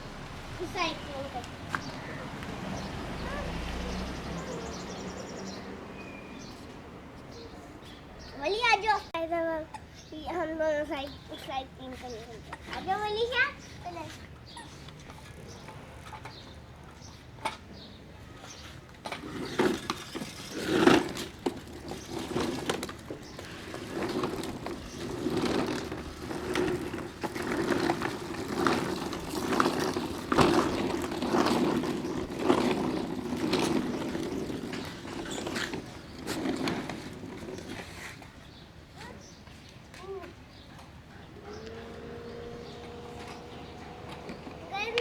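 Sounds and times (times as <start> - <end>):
bicycle tyres rolling on rough path: 0.0 - 6.6, 10.3 - 38.6, 41.4 - 45.0.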